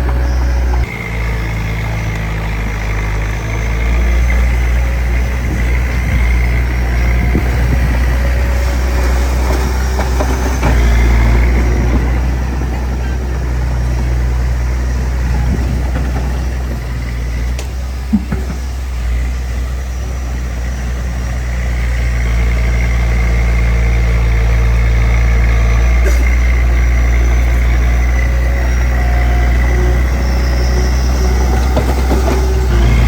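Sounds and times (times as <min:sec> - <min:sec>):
bulldozer diesel engine droning: 0:00.0 - 0:33.0.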